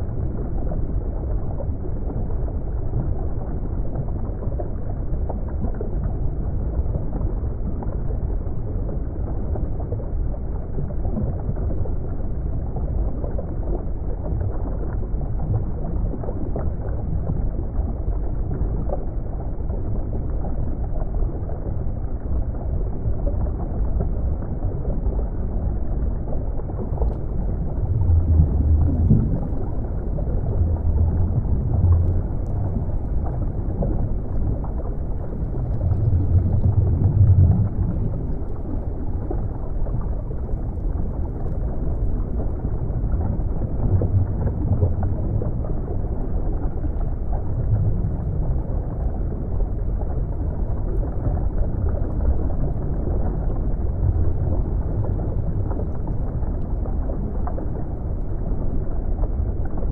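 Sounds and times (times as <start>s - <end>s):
muffled underwater rush: 0.0s - 59.9s.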